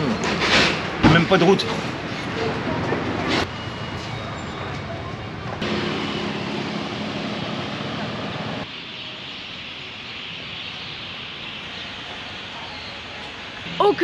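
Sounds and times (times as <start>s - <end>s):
steady vehicle noise: 0.0s - 14.0s.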